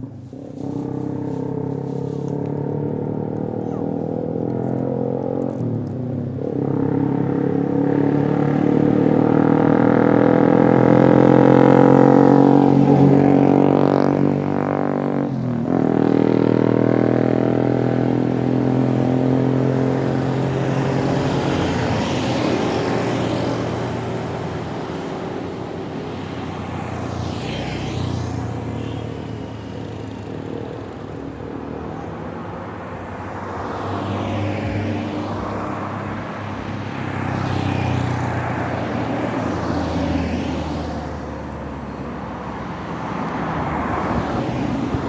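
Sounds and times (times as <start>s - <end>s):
vehicle engines droning: 0.0s - 45.0s.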